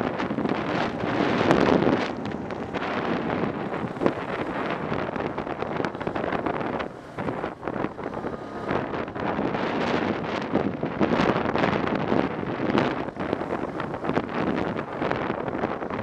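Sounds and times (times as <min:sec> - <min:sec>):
quad engine running: 0:00.0 - 0:16.0
wind buffeting microphone: 0:00.0 - 0:16.0.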